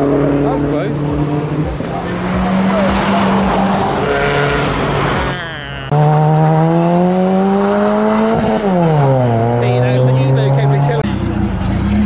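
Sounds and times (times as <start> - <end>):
car engines accelerating: 0.0 - 12.0.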